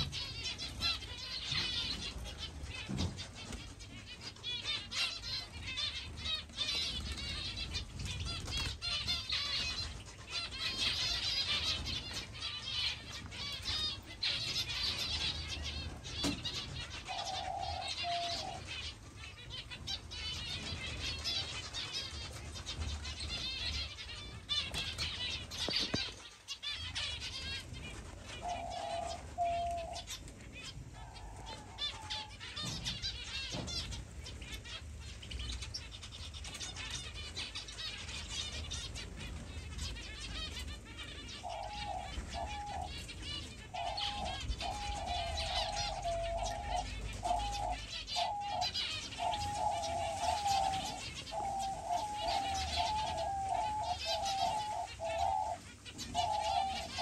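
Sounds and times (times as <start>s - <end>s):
doves cooing: 0.0s - 35.8s, 38.2s - 57.0s
finches chirping and twittering: 0.0s - 57.0s.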